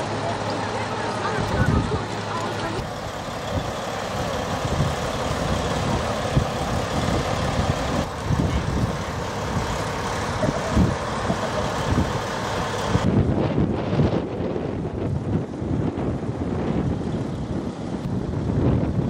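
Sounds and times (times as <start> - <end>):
vehicle engines idling: 0.0 - 19.0
wind buffeting microphone: 1.0 - 19.0.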